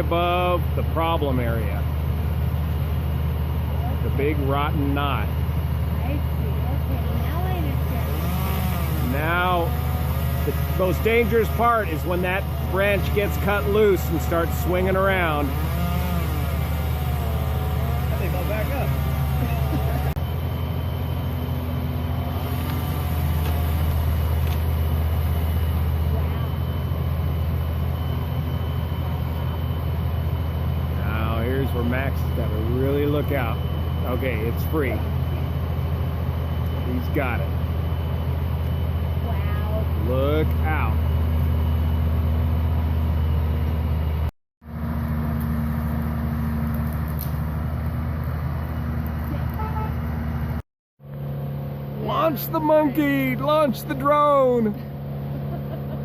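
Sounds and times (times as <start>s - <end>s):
crane engine humming: 0.0s - 56.0s.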